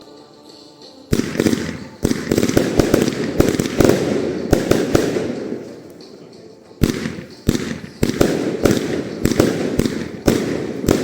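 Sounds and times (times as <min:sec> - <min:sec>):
firework crackling: 0:01.1 - 0:06.1, 0:06.8 - 0:11.0
firework shell bursts: 0:01.2 - 0:06.2, 0:06.8 - 0:11.0.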